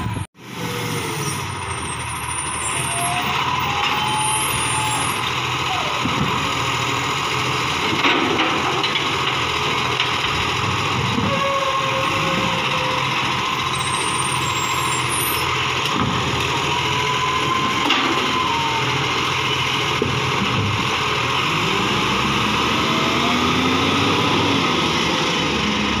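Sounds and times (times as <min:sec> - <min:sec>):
garbage truck engine running: 0:00.0 - 0:26.0.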